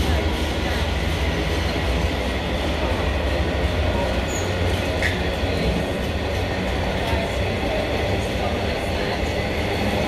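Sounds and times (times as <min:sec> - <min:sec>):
diesel train rumbling: 0:00.0 - 0:10.0.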